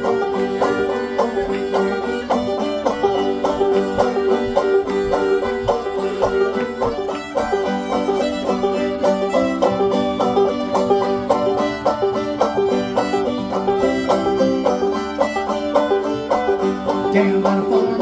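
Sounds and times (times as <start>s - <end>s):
banjo picking rapid rolls: 0.0s - 18.0s
bluegrass string band: 0.0s - 18.0s.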